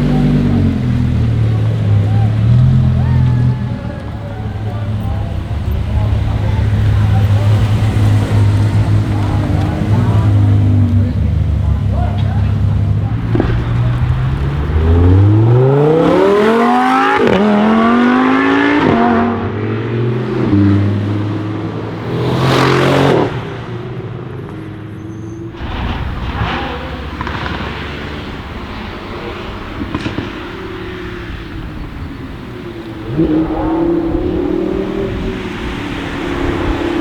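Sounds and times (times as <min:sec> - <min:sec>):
engine revving: 0:00.0 - 0:37.0
exhaust pops: 0:00.0 - 0:37.0
sports car engine accelerating: 0:00.0 - 0:37.0.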